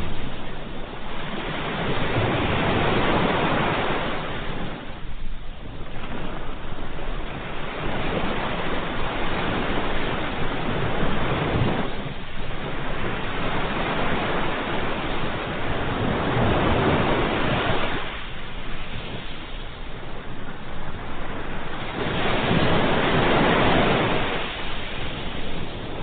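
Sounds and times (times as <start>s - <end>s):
ocean waves washing on shore: 0.0s - 26.0s.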